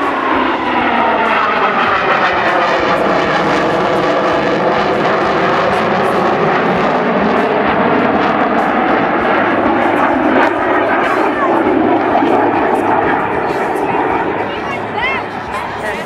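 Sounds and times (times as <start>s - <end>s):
jet engines roaring overhead: 0.0s - 16.0s.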